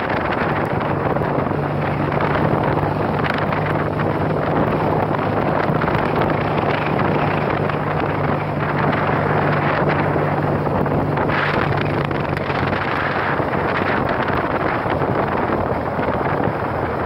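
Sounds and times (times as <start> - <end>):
motorcycle engine hum: 0.0 - 17.0
wind buffeting microphone: 0.0 - 17.0.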